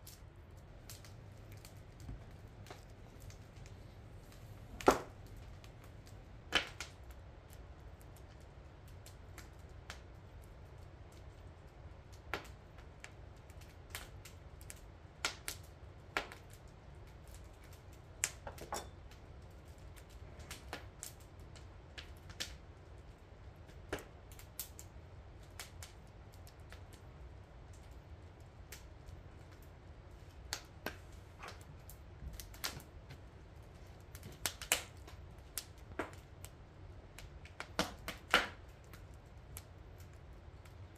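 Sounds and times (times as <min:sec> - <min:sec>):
low steady rumble: 0:00.0 - 0:40.9
wood fire crackling: 0:00.0 - 0:40.9.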